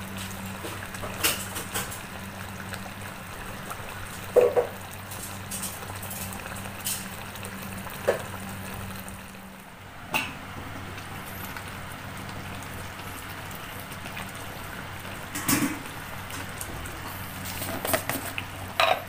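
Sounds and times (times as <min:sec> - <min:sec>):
gravy bubbling in a wok: 0:00.0 - 0:19.0.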